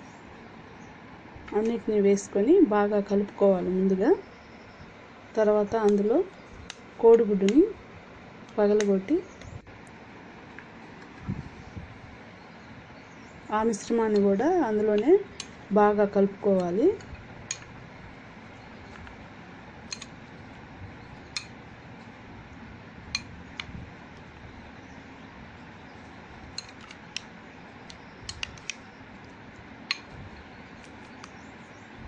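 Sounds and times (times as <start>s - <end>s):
steady low hiss: 0.0s - 32.0s.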